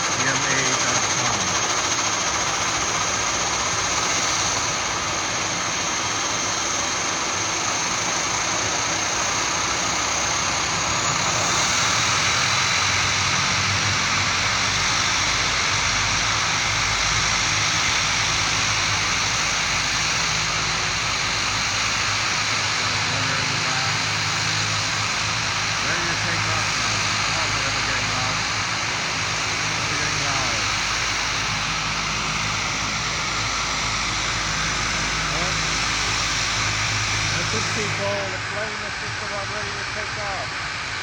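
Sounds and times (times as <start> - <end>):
high engine whine: 0.0 - 41.0
turboprop engines running: 0.0 - 41.0.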